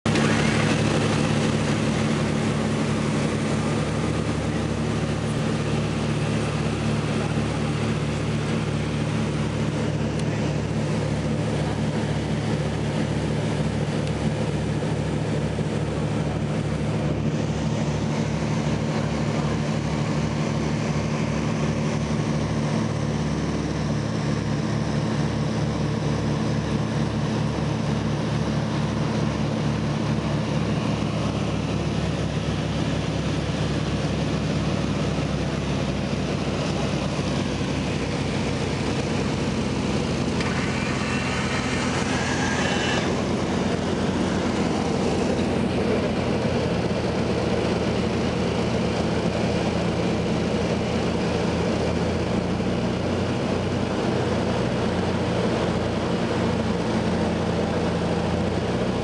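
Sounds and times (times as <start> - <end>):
propeller aircraft engines droning: 0.0 - 59.0.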